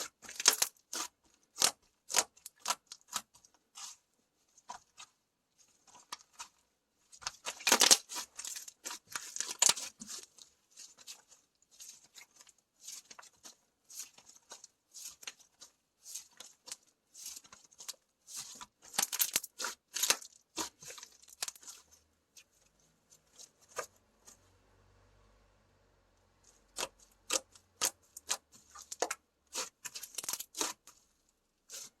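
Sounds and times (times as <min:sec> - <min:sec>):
slime squishing and crackling: 0:00.0 - 0:04.0, 0:04.6 - 0:24.4, 0:26.6 - 0:32.0.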